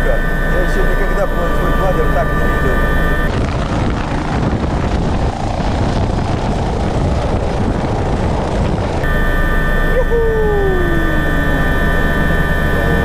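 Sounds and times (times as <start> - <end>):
helicopter rotor rushing: 0.0 - 13.0
turbine whine: 0.0 - 13.0.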